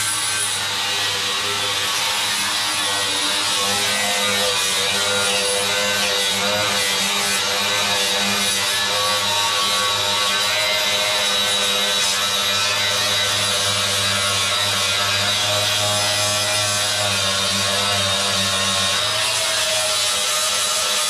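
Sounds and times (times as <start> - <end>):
angle grinder grinding metal: 0.0 - 21.0.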